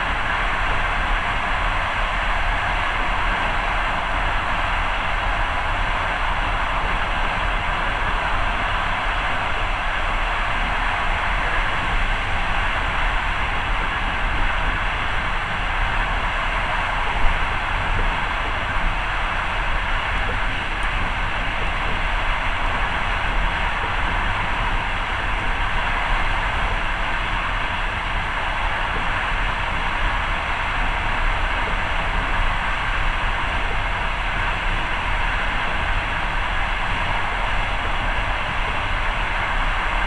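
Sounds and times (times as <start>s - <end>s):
moving passenger train interior: 0.0s - 40.0s.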